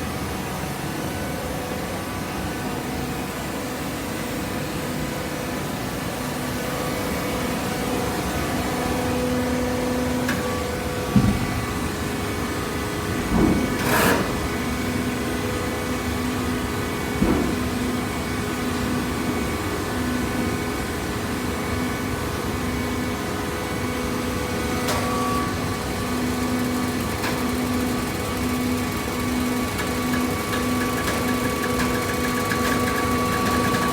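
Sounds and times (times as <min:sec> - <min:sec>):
baler motor and pump humming: 0:00.0 - 0:33.9.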